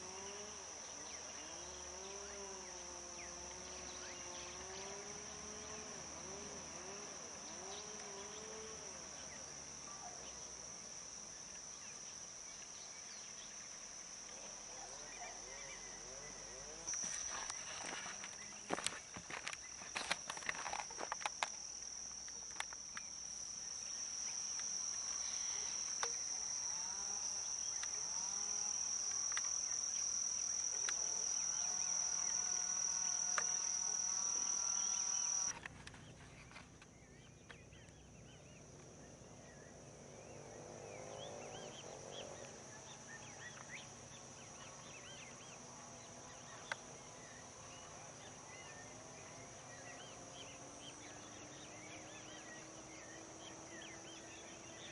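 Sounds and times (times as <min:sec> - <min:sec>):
insect trill: 0:00.0 - 0:54.9
songbirds chirping: 0:00.1 - 0:54.9.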